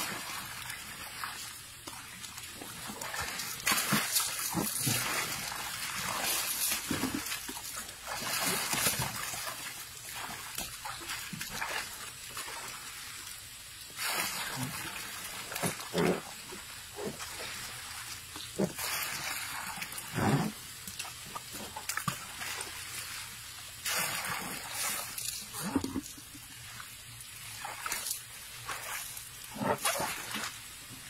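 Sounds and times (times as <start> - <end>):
water splashing in tub: 0.0 - 31.0.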